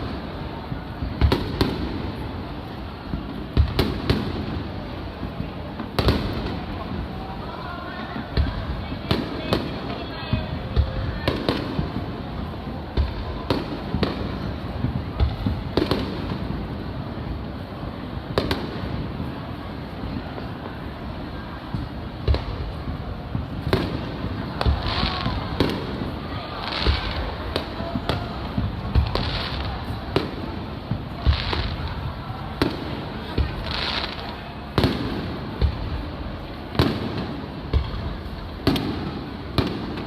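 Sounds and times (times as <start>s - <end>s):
fireworks booming: 0.0s - 40.0s
fireworks hissing: 0.0s - 40.0s.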